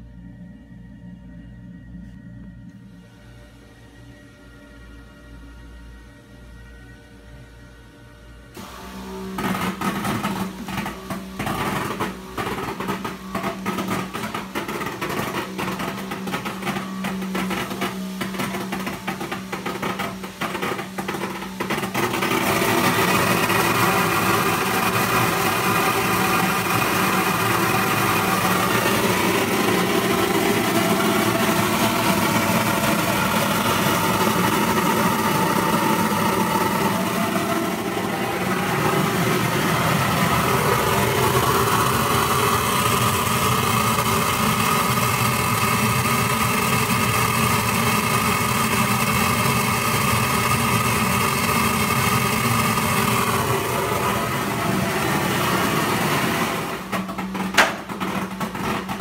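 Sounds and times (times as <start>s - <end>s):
sorting machine drone: 8.0s - 59.0s.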